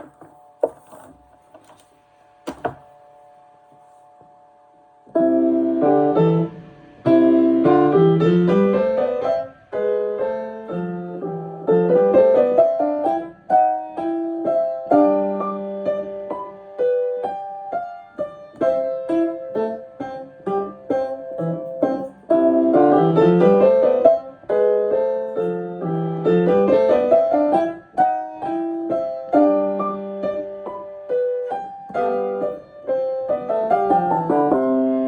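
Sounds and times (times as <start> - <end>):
piano playing: 5.2 - 35.0.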